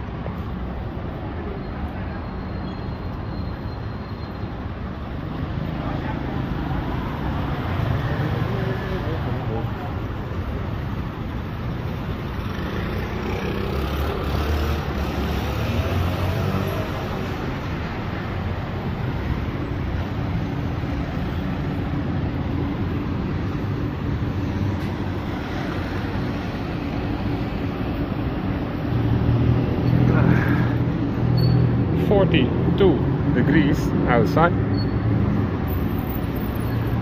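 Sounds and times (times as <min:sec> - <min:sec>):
city traffic hum: 0:00.0 - 0:37.0.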